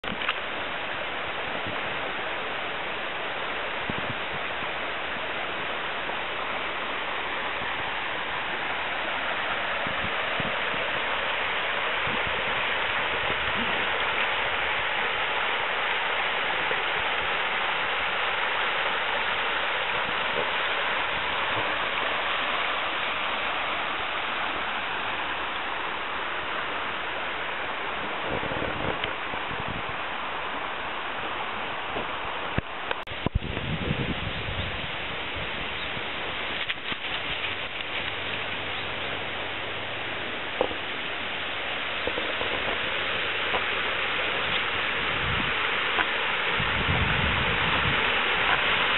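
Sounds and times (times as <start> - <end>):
river rushing over rapids: 0.0 - 48.9.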